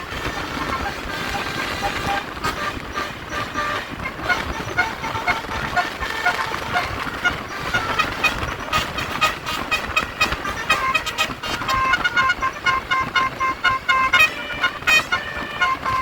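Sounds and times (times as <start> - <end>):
bus musical horn playing a tune: 0.0 - 16.0
vehicle noise: 0.0 - 16.0.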